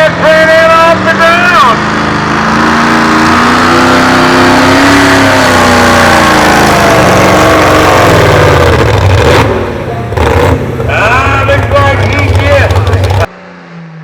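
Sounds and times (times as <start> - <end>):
truck engine at full throttle: 0.0 - 14.0.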